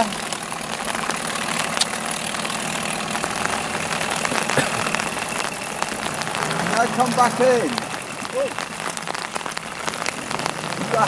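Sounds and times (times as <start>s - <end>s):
small outboard motor idling: 0.0s - 11.0s.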